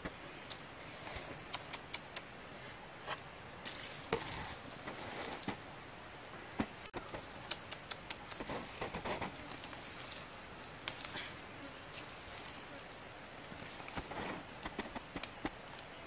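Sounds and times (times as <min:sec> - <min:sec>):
leaves rustling: 0:02.5 - 0:16.0.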